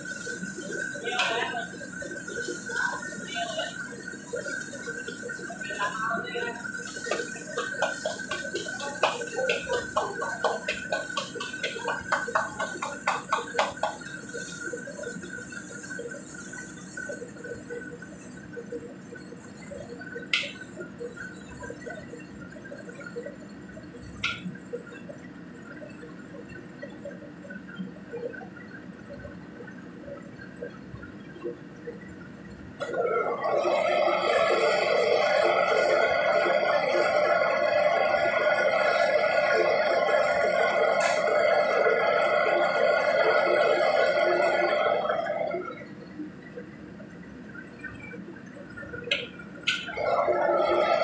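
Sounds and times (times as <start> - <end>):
steady kitchen hiss: 0.0 - 51.0.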